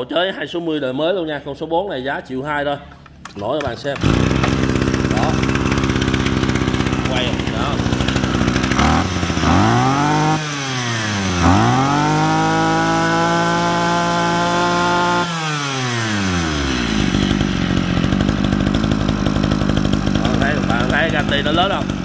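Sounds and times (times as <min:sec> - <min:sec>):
brush cutter engine revving: 0:03.0 - 0:22.0.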